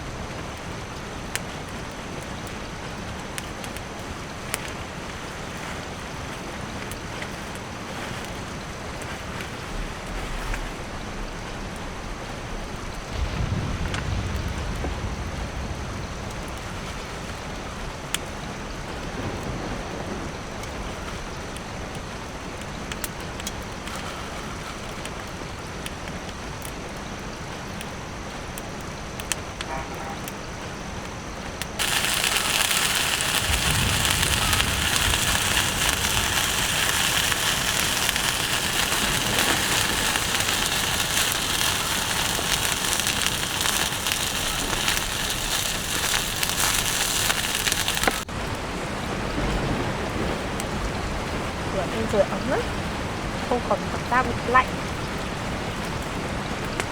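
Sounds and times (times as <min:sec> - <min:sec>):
rain falling: 0:00.0 - 0:56.9
sharp crackles: 0:00.0 - 0:56.9.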